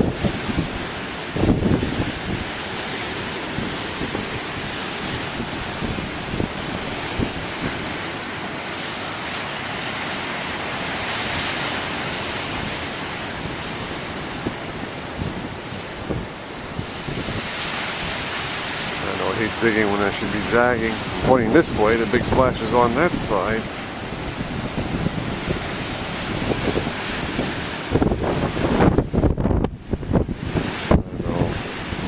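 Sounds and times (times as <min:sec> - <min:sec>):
waves crashing on shore: 0:00.0 - 0:32.0
wind buffeting microphone: 0:00.0 - 0:32.0.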